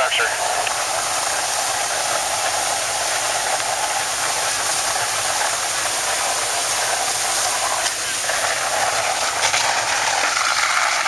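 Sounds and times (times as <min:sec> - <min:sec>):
water stream rushing hiss: 0:00.0 - 0:11.0.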